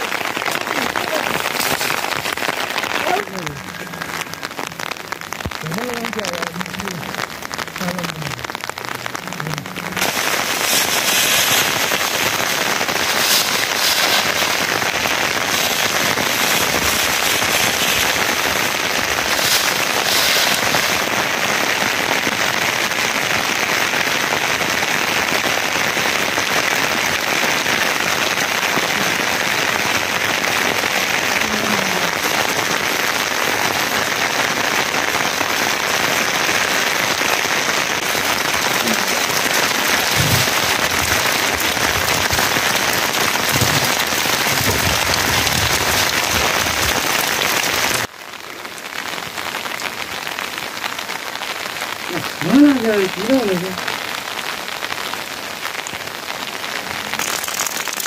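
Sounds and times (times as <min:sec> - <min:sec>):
rain falling steadily: 0:00.0 - 0:58.0.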